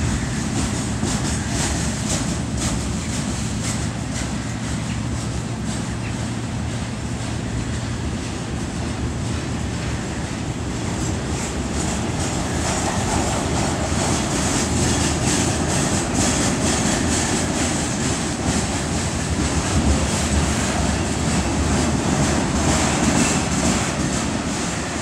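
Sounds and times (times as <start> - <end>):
freight train rumbling past: 0.0 - 25.0
wheels clicking on rail joints: 0.0 - 25.0.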